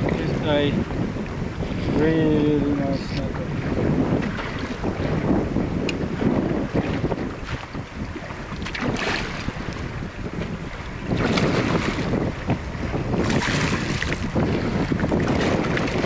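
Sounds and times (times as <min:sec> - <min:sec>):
choppy water around boat: 0:00.0 - 0:16.0
wind buffeting microphone: 0:00.0 - 0:16.0.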